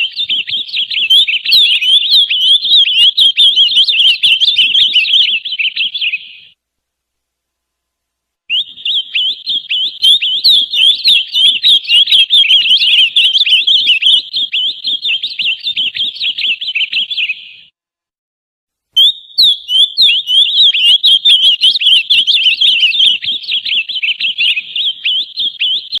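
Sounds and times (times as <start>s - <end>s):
bird chirping and twittering: 0.0s - 6.6s, 8.5s - 17.7s, 19.0s - 26.0s.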